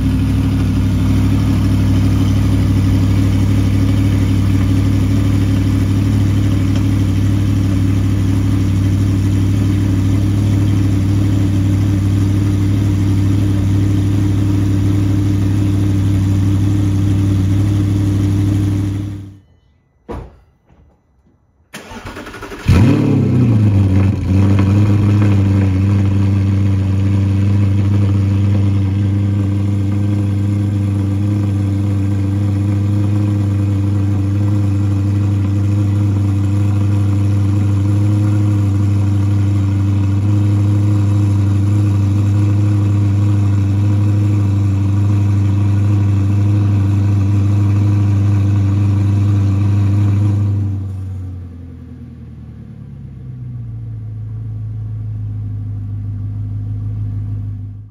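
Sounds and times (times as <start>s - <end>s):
car engine idling: 0.0s - 19.5s, 21.7s - 57.9s.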